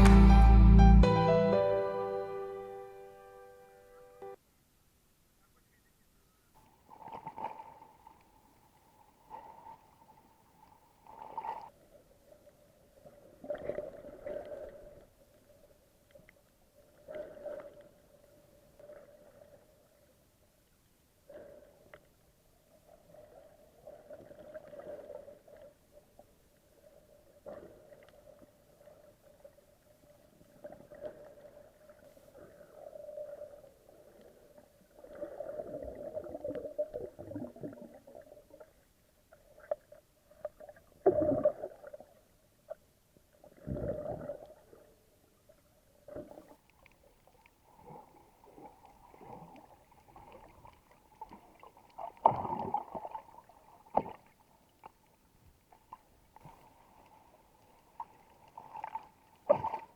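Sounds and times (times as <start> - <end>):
muffled water gurgling and sloshing: 6.7 - 59.9.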